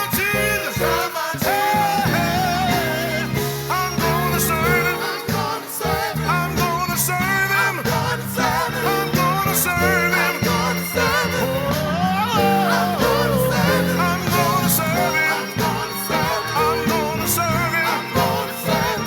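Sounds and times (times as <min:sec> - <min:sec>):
band playing gospel music: 0:00.0 - 0:19.0
person singing with vibrato: 0:00.0 - 0:19.0.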